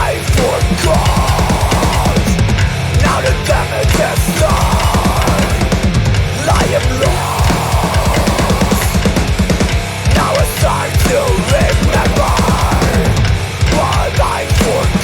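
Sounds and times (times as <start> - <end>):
heavy metal band playing: 0.0 - 15.0
rapid driving drumming: 0.0 - 15.0.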